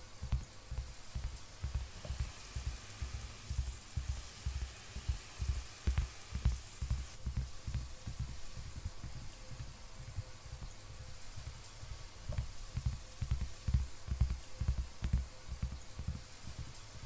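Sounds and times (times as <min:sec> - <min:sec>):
rain-like hiss: 0:00.0 - 0:17.0.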